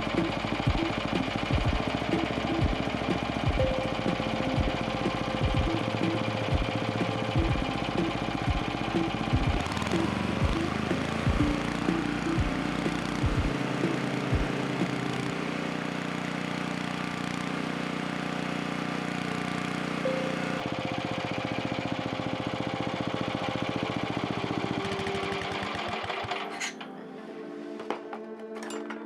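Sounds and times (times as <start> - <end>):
generator engine running: 0.0 - 26.9.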